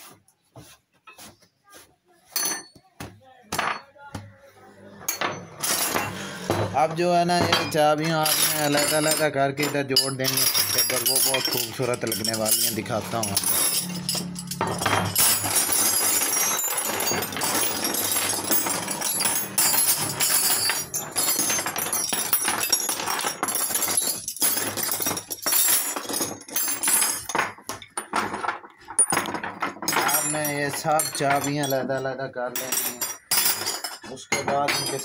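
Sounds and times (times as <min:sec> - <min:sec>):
metal tools clinking together: 0:02.3 - 0:02.8, 0:05.0 - 0:35.0.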